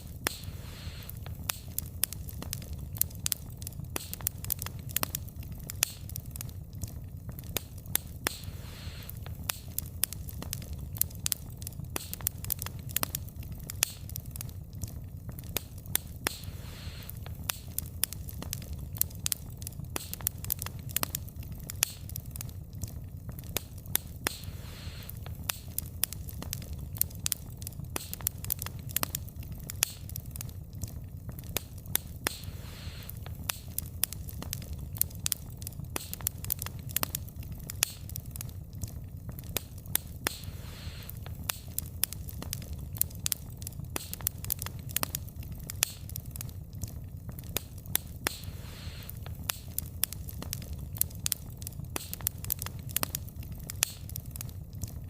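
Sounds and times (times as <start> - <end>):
burning logs popping and snapping: 0.0 - 55.0
low rumble of flames: 0.0 - 55.0.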